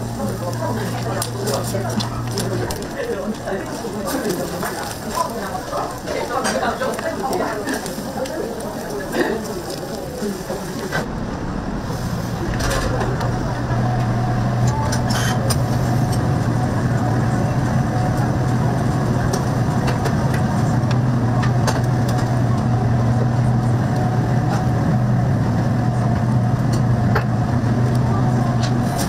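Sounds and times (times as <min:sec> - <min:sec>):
exhaust fans humming: 0:00.0 - 0:29.0.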